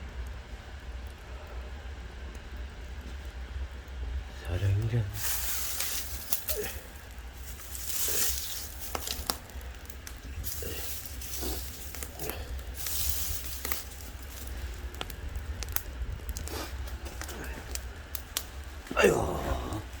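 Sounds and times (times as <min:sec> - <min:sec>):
firewood crackling and popping: 0:00.0 - 0:20.0.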